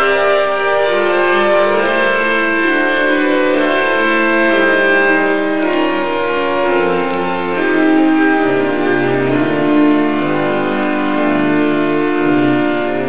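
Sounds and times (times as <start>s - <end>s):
pipe organ playing: 0.0s - 13.0s.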